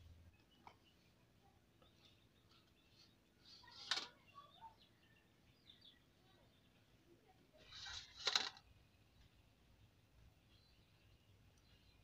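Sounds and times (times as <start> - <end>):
faint bird chirps: 0.0 - 8.0, 8.8 - 12.0.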